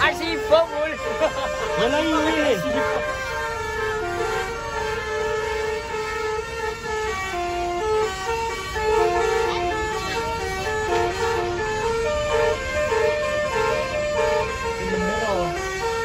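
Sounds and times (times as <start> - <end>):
bus engine running: 0.0 - 16.0
multi-tone bus horn tune: 0.0 - 16.0.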